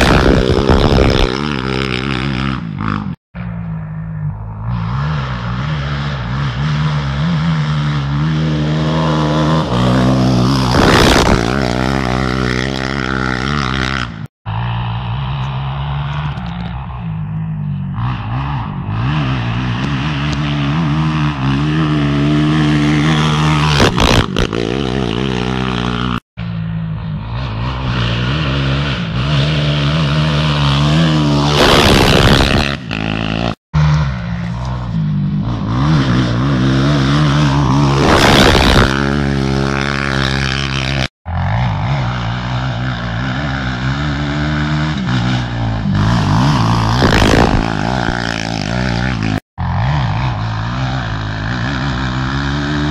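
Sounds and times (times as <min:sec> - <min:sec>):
quad engine revving: 0:00.0 - 0:03.2, 0:04.2 - 0:26.2, 0:27.2 - 0:52.9.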